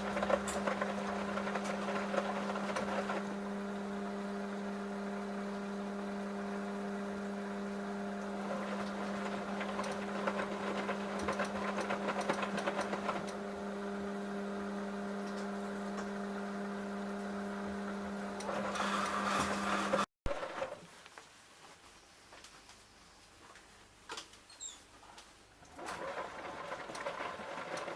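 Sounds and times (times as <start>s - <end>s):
washing machine motor hum: 0.0s - 20.8s, 25.7s - 27.9s.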